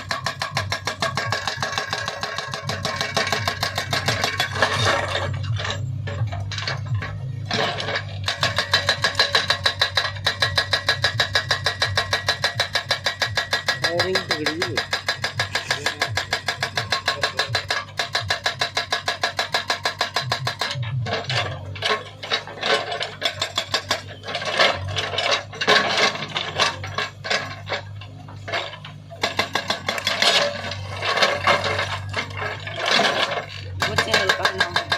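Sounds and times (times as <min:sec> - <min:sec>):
diesel engine running: 0:00.0 - 0:34.9
hydraulic breaker hammering: 0:00.0 - 0:34.9
metallic clanking and rattling: 0:00.0 - 0:34.9.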